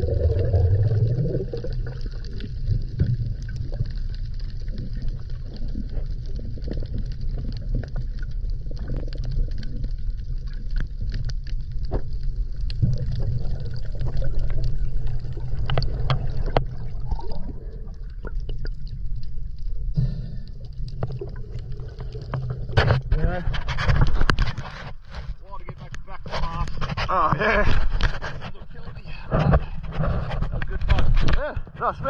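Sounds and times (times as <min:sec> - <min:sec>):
water rumbling underwater: 0:00.0 - 0:28.4
sharp clicks and crackles: 0:00.2 - 0:31.8.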